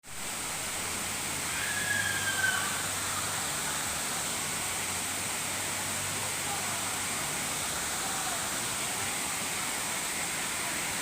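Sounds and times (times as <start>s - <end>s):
waterfall roaring: 0.1s - 11.0s.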